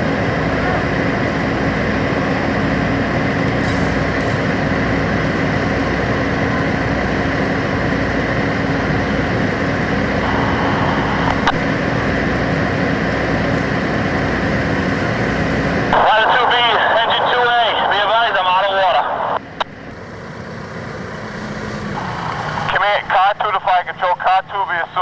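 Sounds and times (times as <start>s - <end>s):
fire engine humming: 0.0s - 25.0s.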